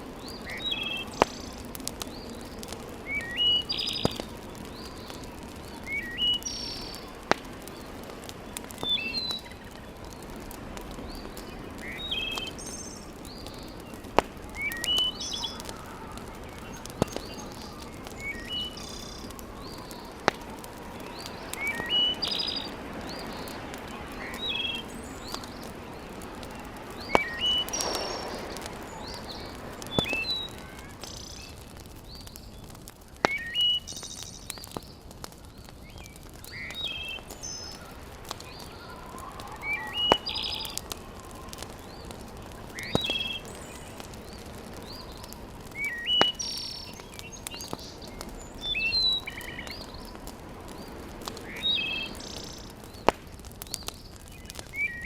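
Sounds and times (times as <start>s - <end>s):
wood fire crackling: 0.0s - 55.0s
songbird chirping: 0.1s - 55.0s.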